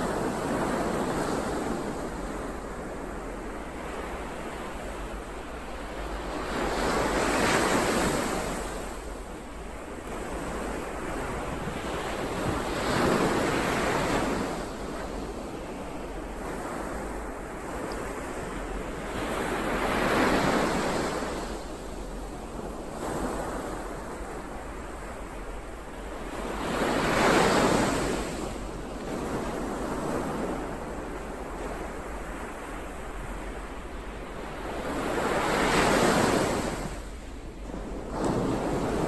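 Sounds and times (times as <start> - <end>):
ocean waves breaking on shore: 0.0 - 39.0.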